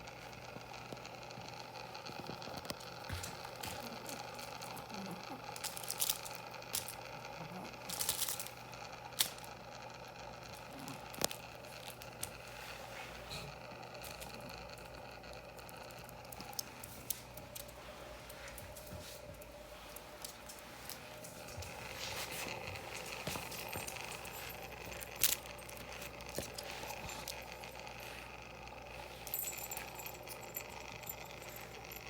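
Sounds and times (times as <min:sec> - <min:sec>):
crinkling rustles: 0:00.0 - 0:32.0
low background hum: 0:00.0 - 0:32.0.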